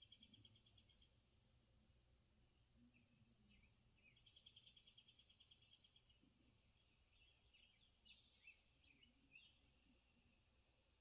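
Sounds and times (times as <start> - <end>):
songbirds trilling and chirping: 0.0 - 1.3, 2.5 - 11.0.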